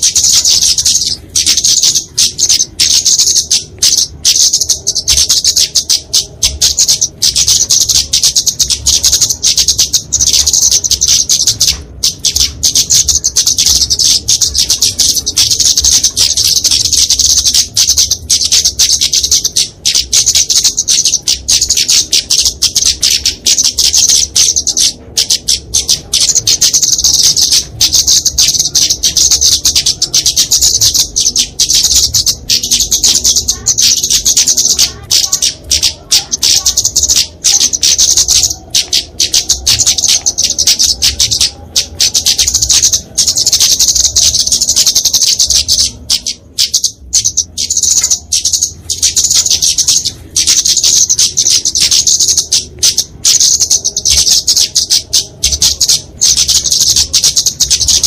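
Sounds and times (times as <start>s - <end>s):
birds high-pitched ticking chatter: 0.0s - 58.0s.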